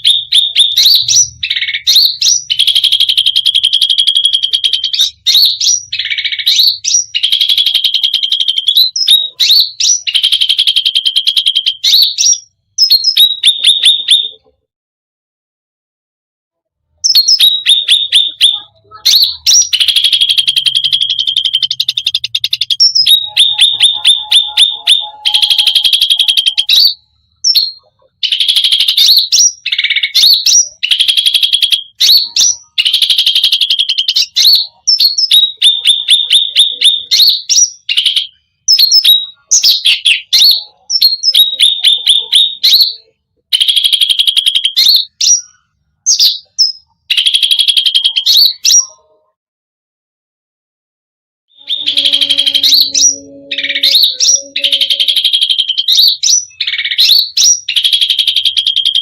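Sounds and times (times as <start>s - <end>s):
songbird singing trills and chirps: 0.0s - 14.4s, 17.0s - 49.3s, 51.6s - 59.0s.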